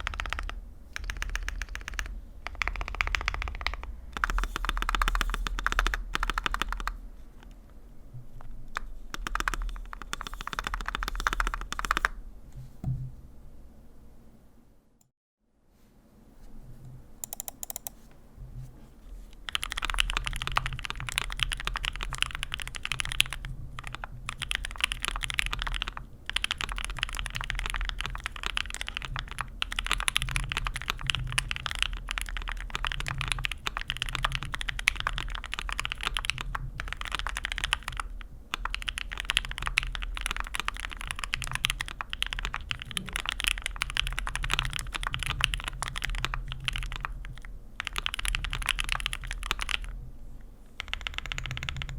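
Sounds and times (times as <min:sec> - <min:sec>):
fast keyboard typing: 0:00.0 - 0:07.0, 0:08.7 - 0:12.2, 0:17.2 - 0:18.0, 0:19.4 - 0:50.0, 0:50.8 - 0:51.9.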